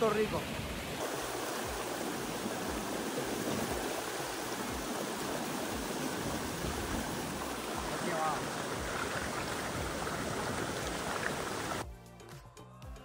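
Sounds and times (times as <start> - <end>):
stream spilling over rocks: 0.0 - 11.8.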